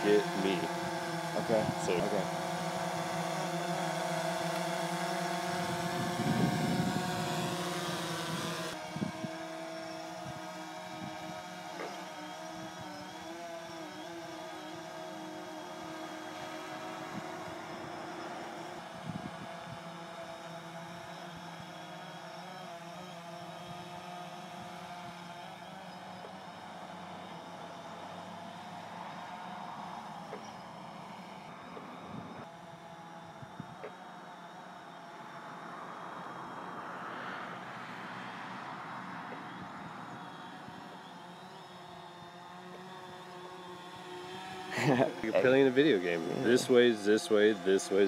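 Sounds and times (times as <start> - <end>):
drone propellers humming: 0.0 - 48.0.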